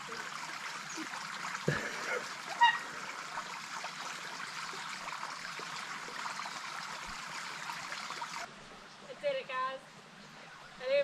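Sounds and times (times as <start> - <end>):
creek water running over rocks: 0.0 - 11.0.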